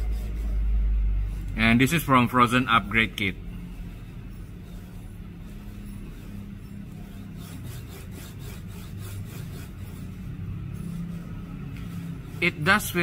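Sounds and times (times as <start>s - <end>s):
guide block scraping along rail: 0.0s - 2.2s, 3.6s - 13.0s.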